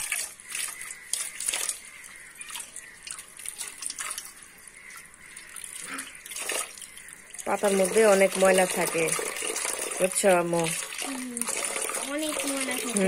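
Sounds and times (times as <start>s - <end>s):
tap water running into metal bowl: 0.0s - 13.0s.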